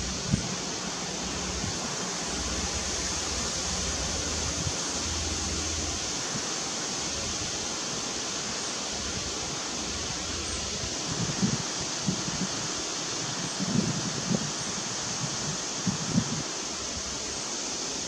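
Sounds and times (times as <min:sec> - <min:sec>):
low wind-like rumble: 0:00.0 - 0:17.4
outdoor background hiss: 0:00.0 - 0:18.0.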